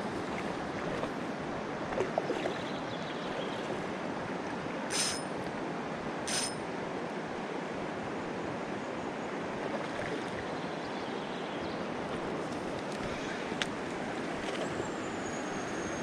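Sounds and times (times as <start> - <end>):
stream water rushing: 0.0 - 11.2, 11.8 - 16.0.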